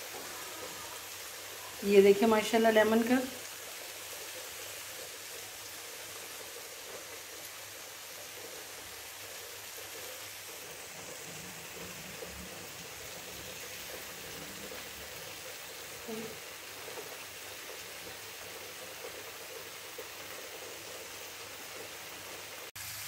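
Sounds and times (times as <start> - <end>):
chicken sizzling in pan: 0.0 - 23.0.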